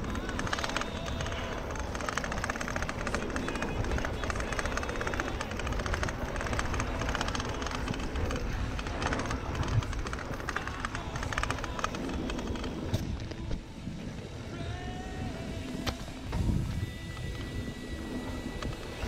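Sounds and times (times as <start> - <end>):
bike tyres on dry dirt: 0.0 - 19.0
wind rumbling on microphone: 0.0 - 19.0.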